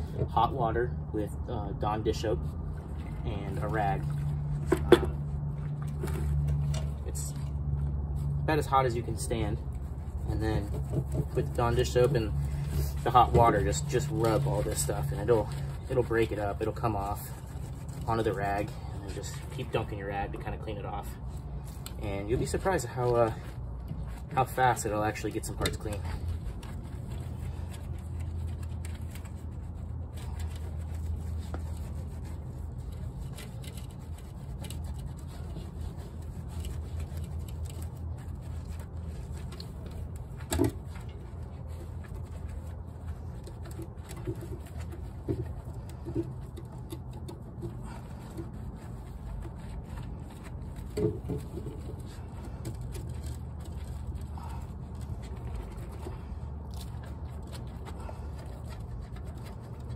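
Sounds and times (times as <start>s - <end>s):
steady low hum: 0.0s - 59.9s
wet rag scrubbing metal: 2.0s - 59.9s.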